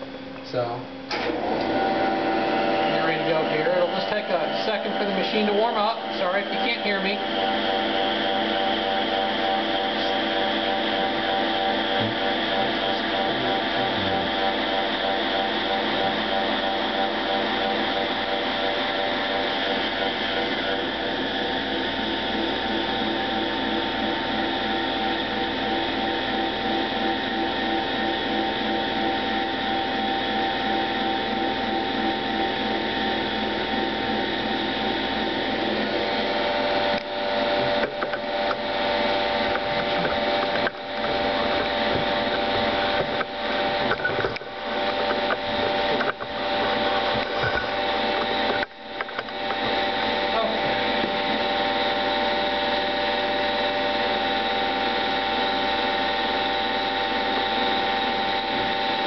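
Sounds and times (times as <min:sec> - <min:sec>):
hydraulic pump and motor humming: 0:00.0 - 0:59.0.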